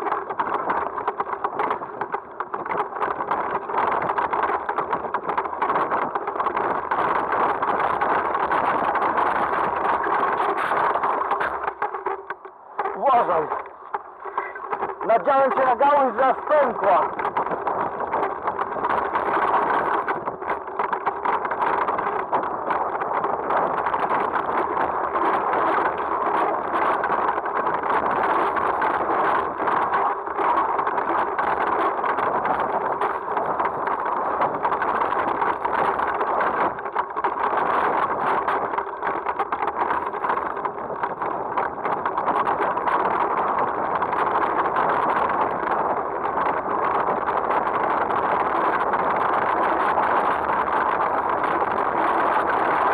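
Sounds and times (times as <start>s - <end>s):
bike knocking and rattling: 0.0s - 52.9s
wind on microphone: 0.0s - 52.9s.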